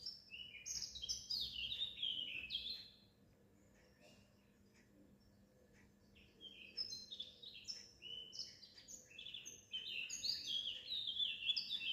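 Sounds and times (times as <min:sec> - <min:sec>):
small songbirds chirping: 0:00.0 - 0:11.9.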